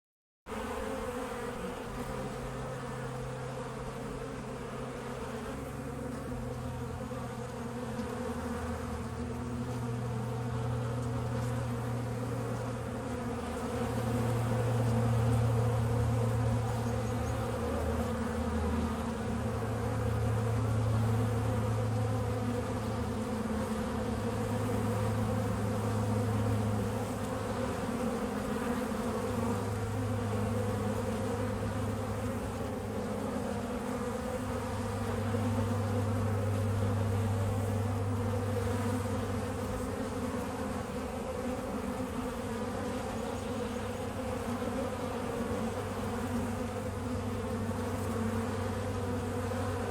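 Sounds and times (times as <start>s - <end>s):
honeybees buzzing: 0.5s - 49.9s.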